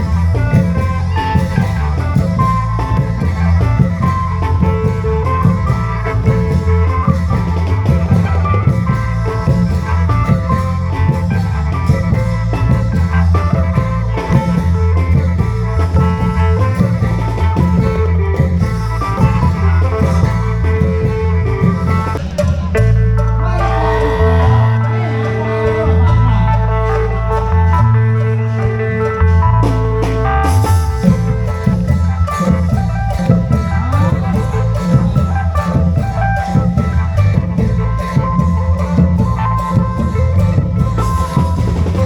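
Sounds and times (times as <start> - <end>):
heavy bass line: 0.0 - 42.0
long-drum band playing: 0.0 - 42.0.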